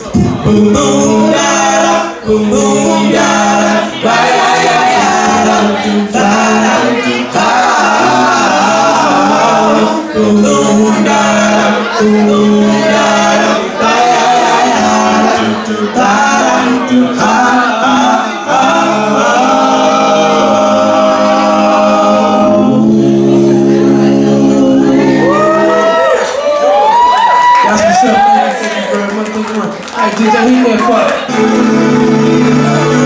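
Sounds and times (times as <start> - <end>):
male vocal group singing harmony: 0.0 - 26.0, 30.8 - 33.0.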